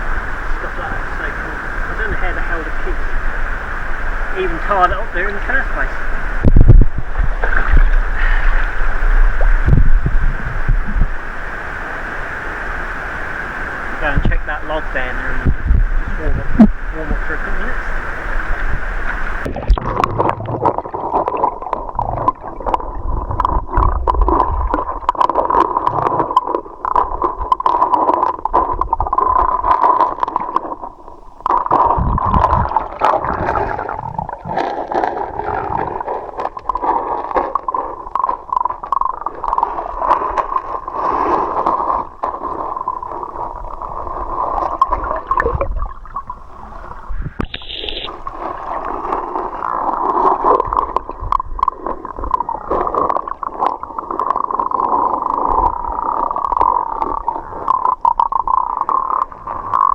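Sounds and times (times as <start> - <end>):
muffled river water gurgling: 0.0 - 59.9.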